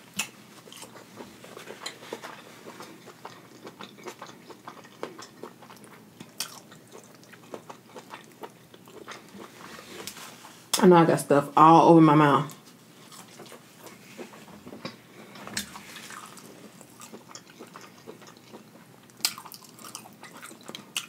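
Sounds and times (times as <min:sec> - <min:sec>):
chewing with wet mouth sounds: 0:00.1 - 0:10.2, 0:12.5 - 0:21.0.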